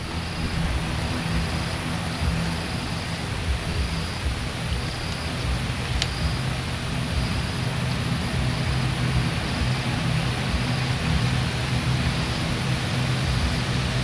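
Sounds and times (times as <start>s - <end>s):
jet engines rumbling: 0.0s - 14.0s
low humming tones: 0.0s - 14.0s.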